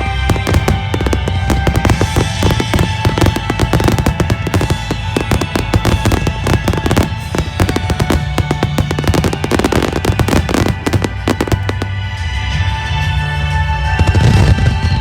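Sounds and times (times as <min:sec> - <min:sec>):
fireworks bursting and crackling: 0:00.0 - 0:12.4.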